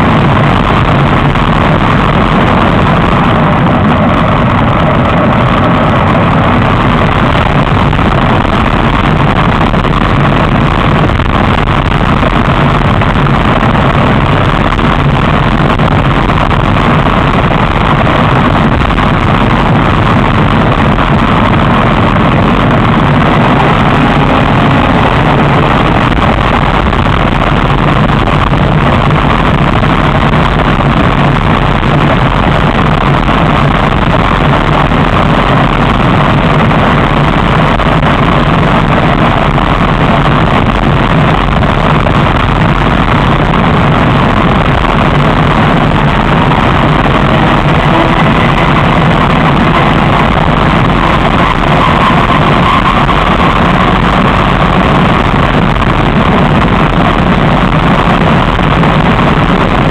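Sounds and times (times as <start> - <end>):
wind and running noise: 0.0 - 59.9.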